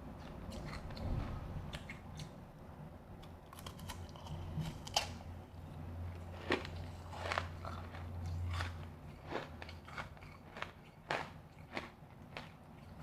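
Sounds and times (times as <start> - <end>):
soft chewing: 0.2 - 2.4, 3.2 - 13.0.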